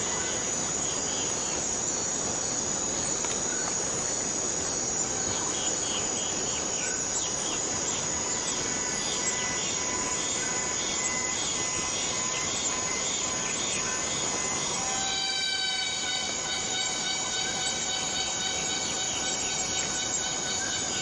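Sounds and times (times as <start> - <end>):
cicadas droning: 0.0 - 21.0.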